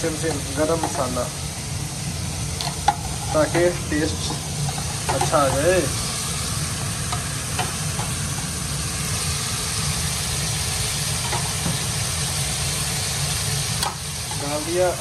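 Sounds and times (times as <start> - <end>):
curry simmering and sizzling: 0.0 - 15.0
gas stove low rumble: 0.0 - 15.0.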